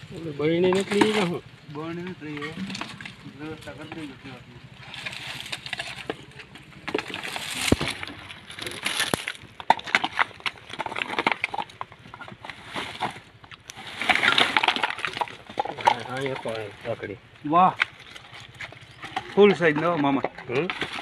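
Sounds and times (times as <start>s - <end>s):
dry husks rustling and knocking: 2.2s - 21.0s.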